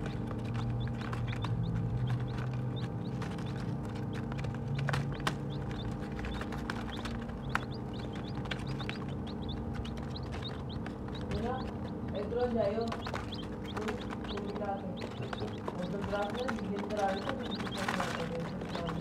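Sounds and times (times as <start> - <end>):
baby chicks peeping: 0.0 - 19.0
beak taps on paper: 0.0 - 19.0
steady low hum: 0.0 - 19.0.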